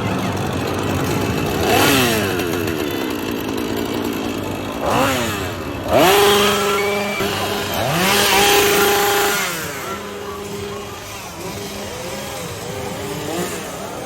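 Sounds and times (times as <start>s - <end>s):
chainsaw engine revving: 0.0s - 14.0s.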